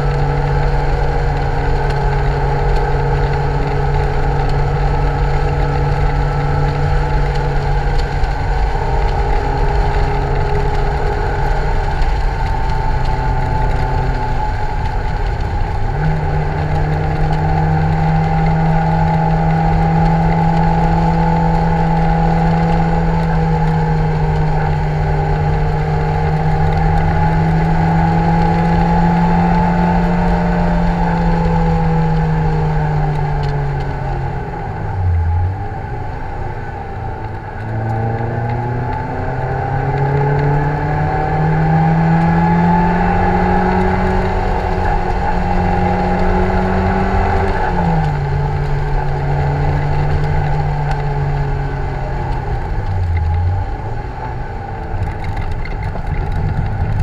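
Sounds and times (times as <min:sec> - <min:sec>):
car engine at high revs: 0:00.0 - 0:57.0
wind and road noise: 0:00.0 - 0:57.0.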